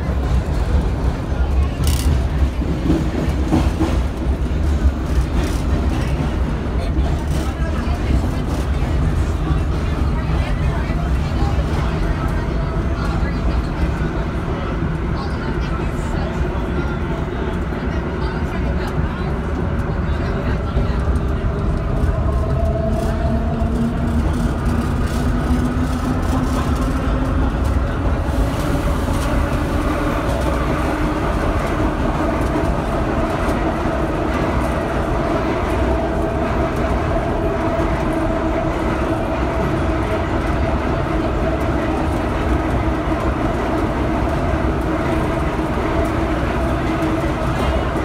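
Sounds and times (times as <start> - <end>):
train wheels rumbling on track: 0.0 - 48.0.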